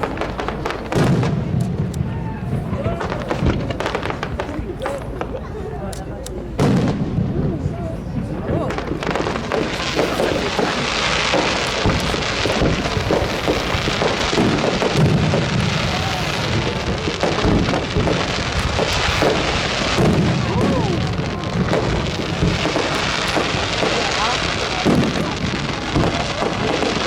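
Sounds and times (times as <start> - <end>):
crowd voices: 0.0 - 27.0
fireworks crackling and booming: 0.0 - 27.0.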